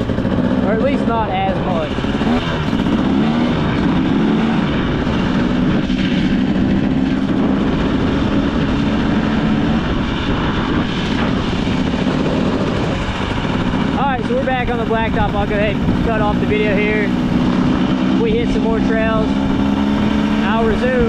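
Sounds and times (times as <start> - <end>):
dirt bike engine running: 0.0 - 21.0
rush of noise: 0.0 - 21.0.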